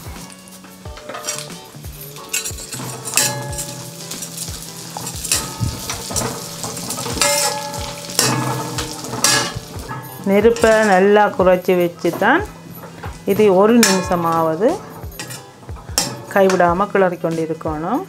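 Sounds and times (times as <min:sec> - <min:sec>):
light sizzle of frying: 0:00.0 - 0:18.0
metal ladle scraping a pan: 0:01.0 - 0:17.1.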